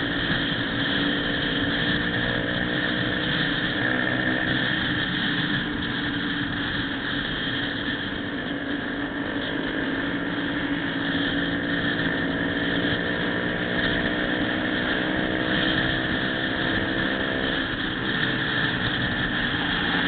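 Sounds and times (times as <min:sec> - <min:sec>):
motorcycle engine running: 0:00.0 - 0:20.0
road noise: 0:00.0 - 0:20.0
wind noise on microphone: 0:00.0 - 0:20.0.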